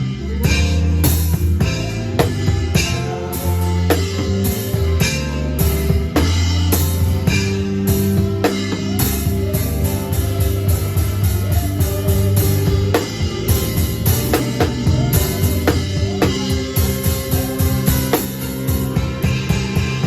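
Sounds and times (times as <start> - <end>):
drum kit beat: 0.0 - 20.0
low bass notes: 0.0 - 20.0.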